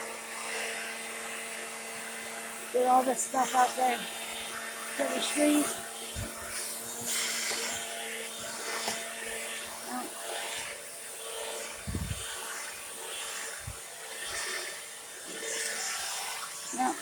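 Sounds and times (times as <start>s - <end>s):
leaf blower whir and air rush: 0.0s - 17.0s.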